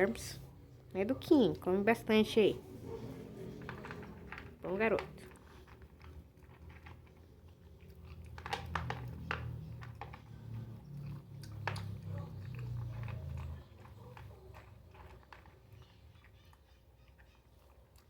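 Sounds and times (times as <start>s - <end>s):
dog chewing food: 2.8s - 18.0s.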